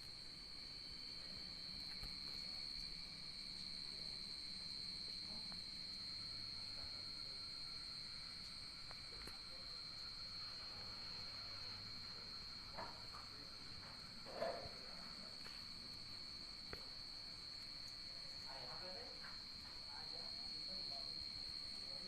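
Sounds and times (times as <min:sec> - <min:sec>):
insect high-pitched buzz: 0:00.0 - 0:22.0.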